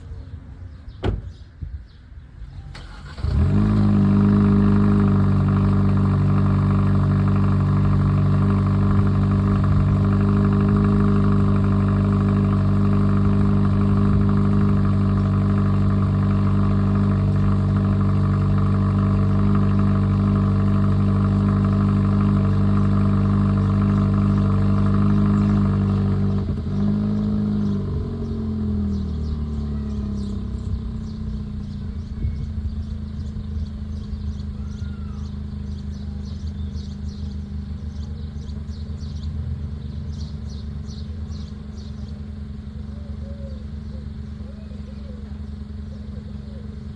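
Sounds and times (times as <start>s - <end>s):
car engine cold start and idle: 2.4s - 46.9s.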